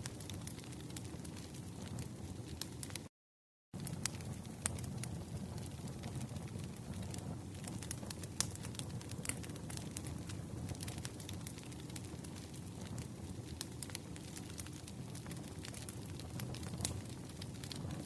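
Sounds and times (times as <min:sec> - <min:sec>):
wood fire crackling: 0:00.0 - 0:03.1, 0:03.8 - 0:18.0.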